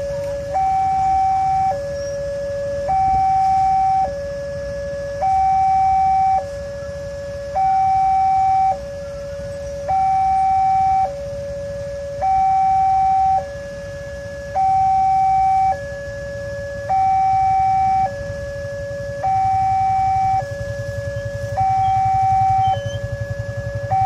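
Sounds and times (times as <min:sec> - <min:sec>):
low engine rumble: 0:00.0 - 0:24.0
two-tone level crossing alarm: 0:00.0 - 0:24.0.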